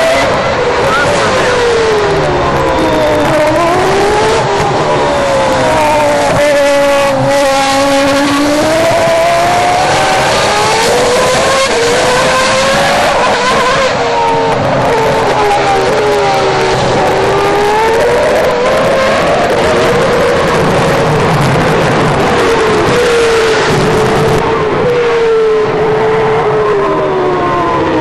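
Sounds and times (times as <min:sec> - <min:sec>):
racing car engine revving: 0:00.0 - 0:28.0.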